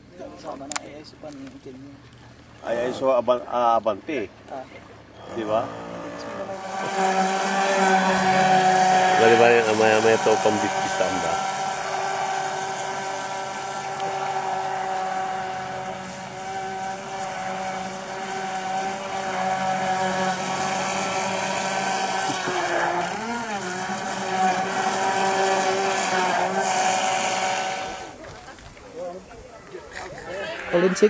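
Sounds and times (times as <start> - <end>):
engine droning hum: 0.0 - 31.0.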